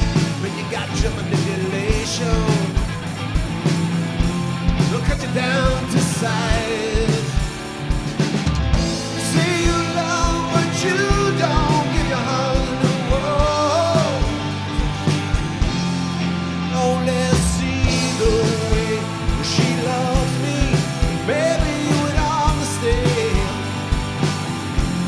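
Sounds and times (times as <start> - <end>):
live rock band playing: 0.0 - 25.0
melodic lead guitar line: 0.0 - 25.0.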